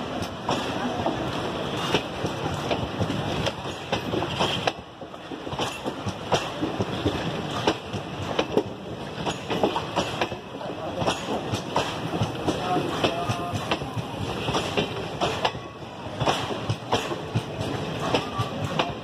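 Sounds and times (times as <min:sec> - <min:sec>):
train wheels rumbling on rails: 0:00.0 - 0:19.0
wheels clicking over rail joints: 0:00.0 - 0:19.0.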